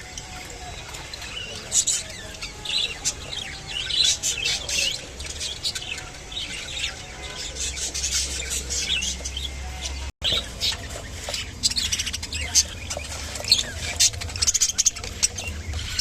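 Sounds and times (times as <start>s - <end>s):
budgerigars chirping and chattering: 0.0s - 16.0s.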